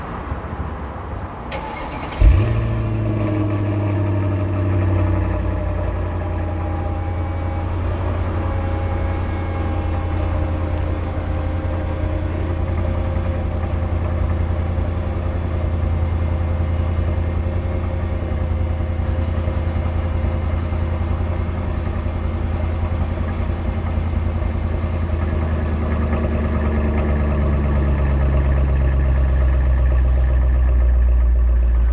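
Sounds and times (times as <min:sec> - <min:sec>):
car engine idling: 0:01.5 - 0:31.9.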